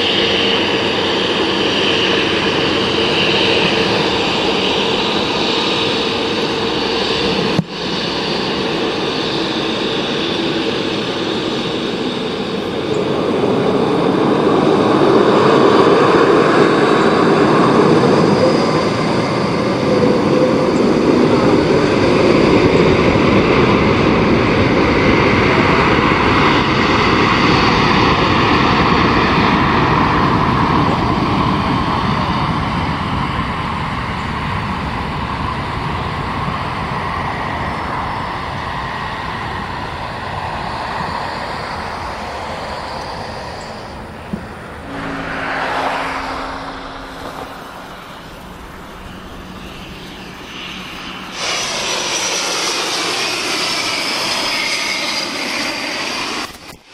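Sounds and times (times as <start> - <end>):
jet engines roaring: 0.0 - 56.9.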